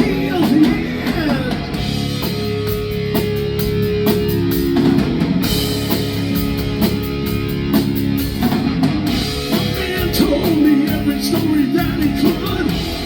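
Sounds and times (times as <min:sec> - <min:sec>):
drum kit beat: 0:00.0 - 0:13.0
electric guitars: 0:00.0 - 0:13.0.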